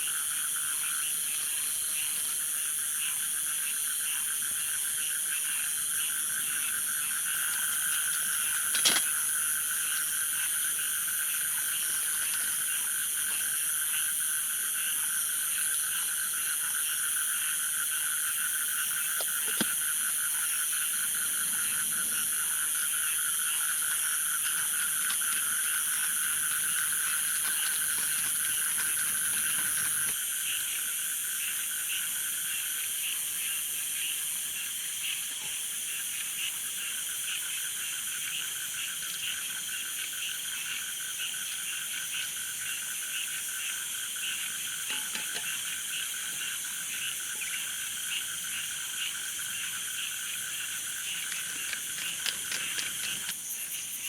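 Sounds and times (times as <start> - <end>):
frogs chorus calling: 0.0 - 54.0.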